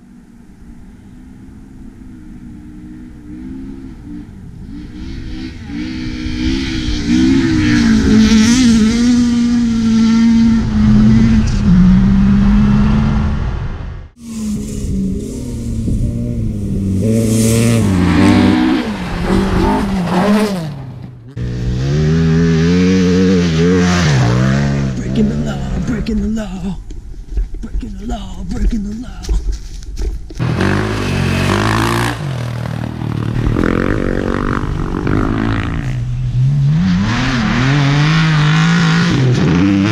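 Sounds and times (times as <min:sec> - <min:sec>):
rally car engines revving: 0:01.9 - 0:26.5, 0:30.4 - 0:39.9.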